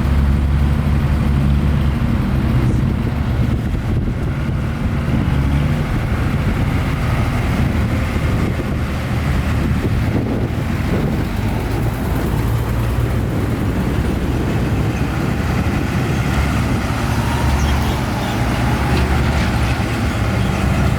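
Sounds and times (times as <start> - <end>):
heavy diesel engine running: 0.0 - 20.9.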